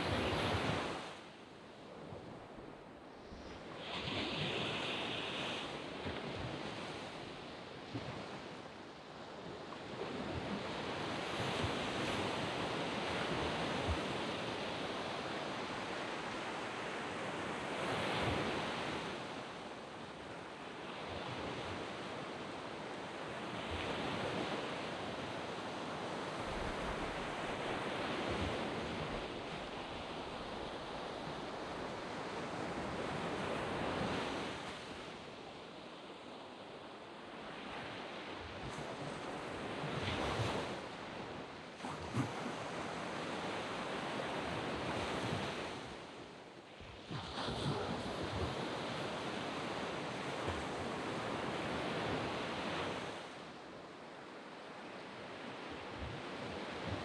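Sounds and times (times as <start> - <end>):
waves breaking on beach: 0.0 - 1.4, 3.6 - 57.0.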